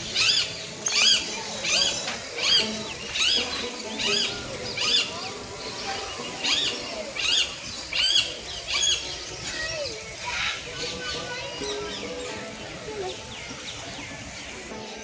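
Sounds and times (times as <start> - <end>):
birds squawking: 0.0 - 15.0.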